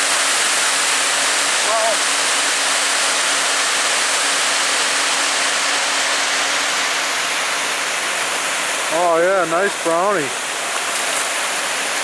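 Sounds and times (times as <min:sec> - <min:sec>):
water pouring over a dam: 0:00.0 - 0:12.0.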